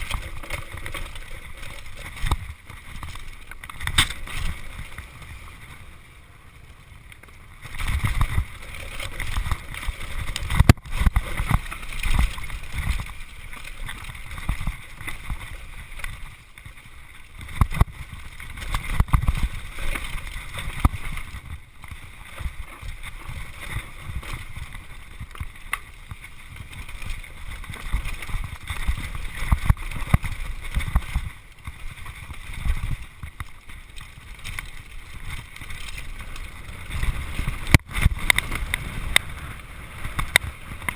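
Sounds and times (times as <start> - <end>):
bike knocking and rattling: 0.0 - 5.9, 7.2 - 40.9
tyre noise on dirt: 0.0 - 6.0, 7.3 - 40.9.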